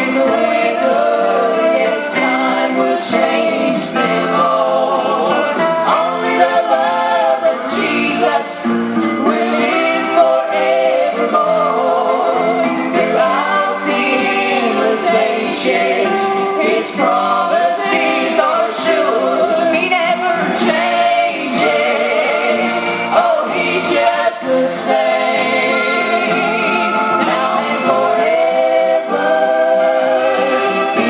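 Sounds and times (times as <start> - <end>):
group singing in harmony: 0.0 - 31.0
musical accompaniment: 0.0 - 31.0.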